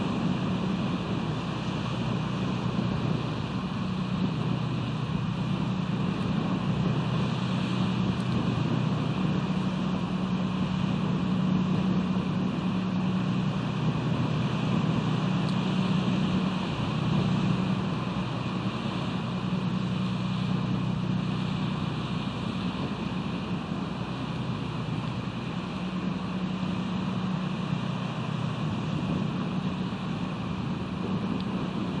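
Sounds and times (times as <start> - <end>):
low droning hum: 0.0 - 32.0
rushing wind noise: 0.0 - 32.0.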